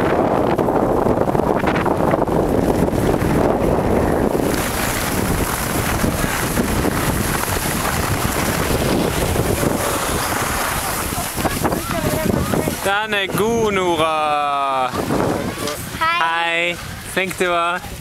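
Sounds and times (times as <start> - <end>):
wind buffeting microphone: 0.0 - 18.0
skis sliding on snow: 1.4 - 18.0.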